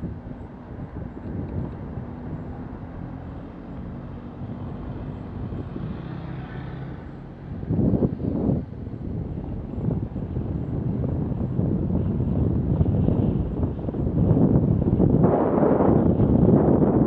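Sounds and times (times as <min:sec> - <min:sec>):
bicycle road and wind rumble: 0:00.0 - 0:17.0
motorcycle passing: 0:01.8 - 0:17.0.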